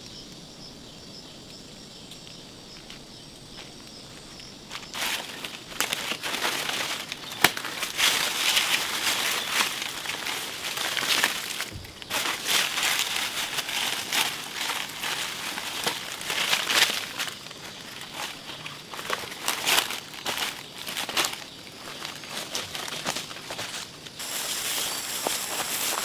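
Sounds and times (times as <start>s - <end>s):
rustling and crackling with snaps: 1.3s - 26.0s.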